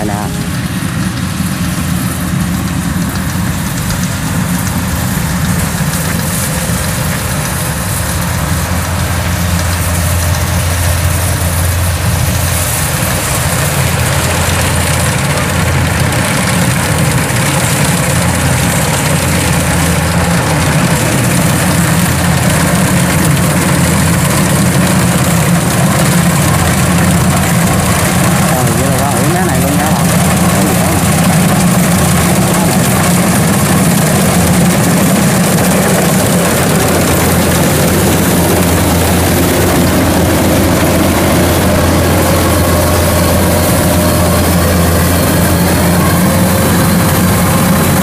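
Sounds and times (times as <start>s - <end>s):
combine harvester diesel engine running: 0.0s - 48.0s.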